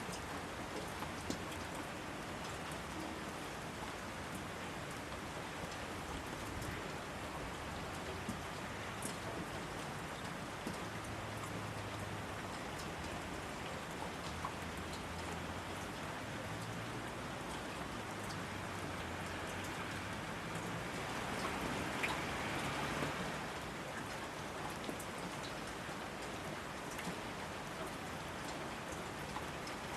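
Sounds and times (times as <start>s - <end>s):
steady rain hiss: 0.0s - 29.9s
raindrops ticking: 0.1s - 29.9s.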